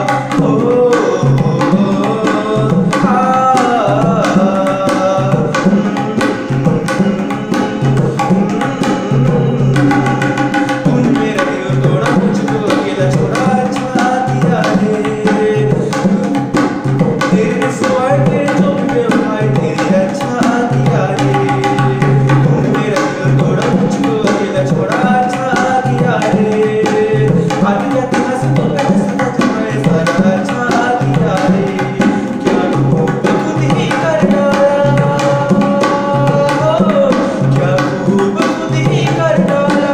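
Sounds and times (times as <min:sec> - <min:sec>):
man singing: 0:00.0 - 0:39.9
tabla drumming: 0:00.0 - 0:39.9.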